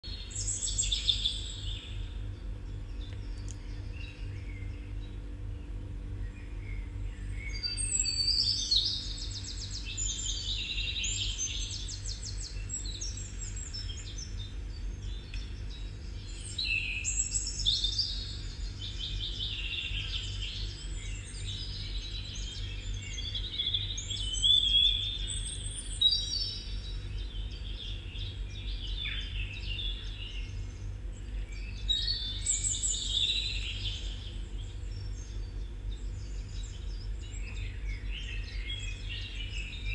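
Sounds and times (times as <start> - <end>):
songbirds trilling and chirping: 0.0 - 39.9
steady low hum: 0.0 - 39.9.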